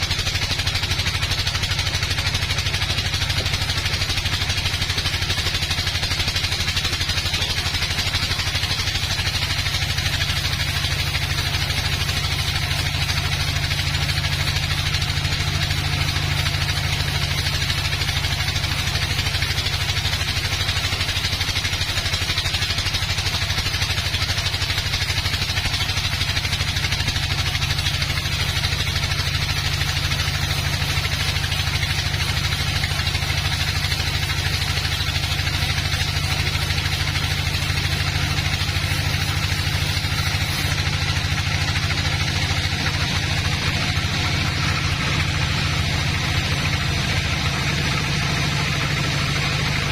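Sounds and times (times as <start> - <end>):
sawmill engine humming: 0.0 - 49.9.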